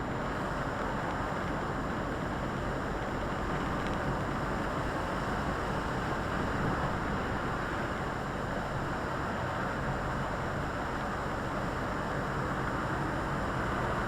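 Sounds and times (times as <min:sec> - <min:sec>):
lorry engine and road noise: 0:00.0 - 0:14.0.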